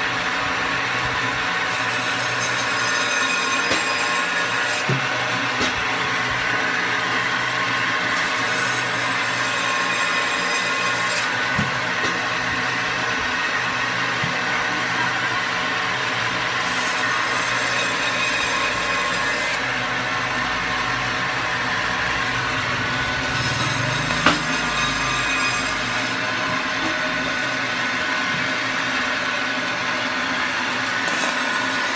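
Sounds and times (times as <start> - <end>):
electric band saw whining: 0.0 - 31.9.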